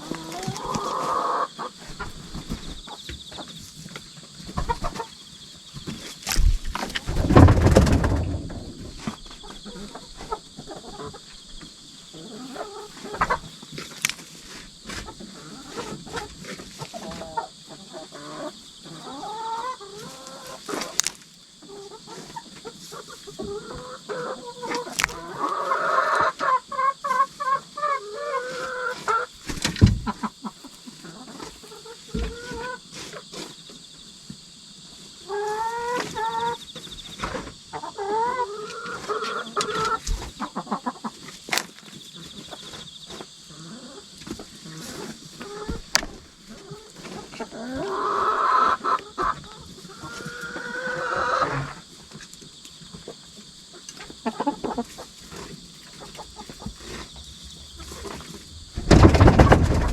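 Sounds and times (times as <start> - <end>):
hens clucking: 0.0 - 33.7, 35.1 - 59.9
insects trilling: 0.0 - 59.9
knocks and scratches in coop: 0.0 - 59.9.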